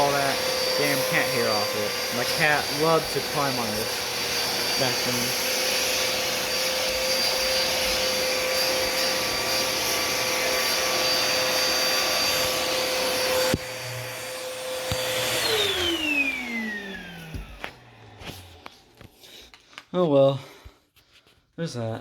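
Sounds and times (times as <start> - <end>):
vacuum cleaner motor whining: 0.0 - 19.4.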